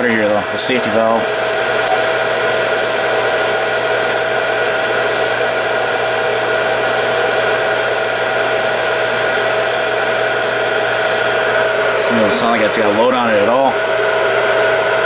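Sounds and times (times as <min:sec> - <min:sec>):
water pump motor whirring: 0:00.0 - 0:15.0.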